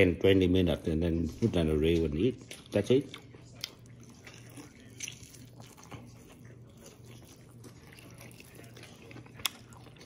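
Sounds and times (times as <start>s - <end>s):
faint low hum: 0.0s - 10.0s
person chewing meat: 1.3s - 10.0s.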